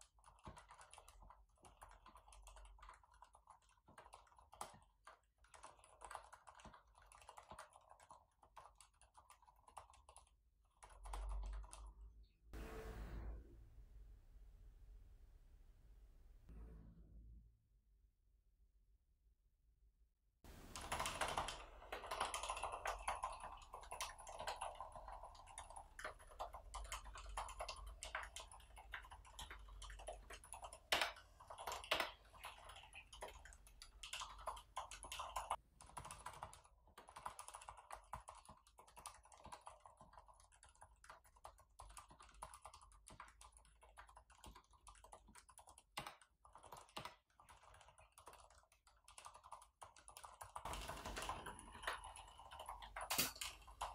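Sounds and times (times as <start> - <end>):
fast typing on mechanical keyboard: 0.0 - 12.0, 20.6 - 53.9.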